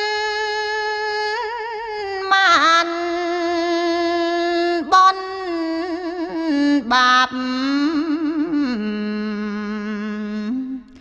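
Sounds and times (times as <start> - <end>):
woman chanting: 0.0 - 11.0.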